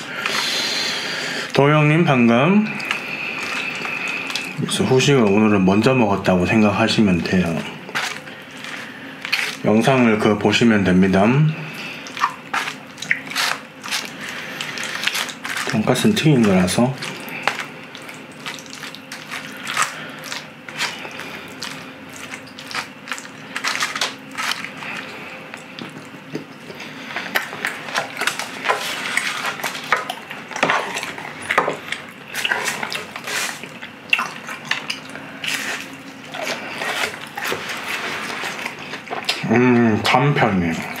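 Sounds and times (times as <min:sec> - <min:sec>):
wet chewing: 0:02.6 - 0:05.5, 0:07.4 - 0:09.9, 0:11.7 - 0:39.5.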